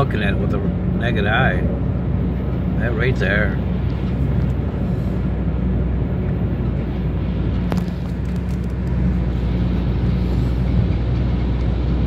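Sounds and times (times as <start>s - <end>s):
car engine hum: 0.0s - 12.0s
road rumble: 0.0s - 12.0s.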